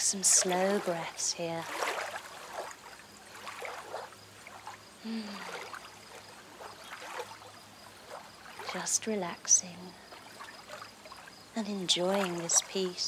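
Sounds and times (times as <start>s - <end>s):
small water splashes: 0.0s - 13.0s
water trickling and lapping: 0.0s - 13.0s.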